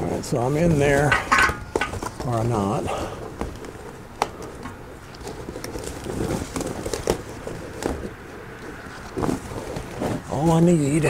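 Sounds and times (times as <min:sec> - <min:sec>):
woven matting rustling and crackling: 0:00.0 - 0:11.0.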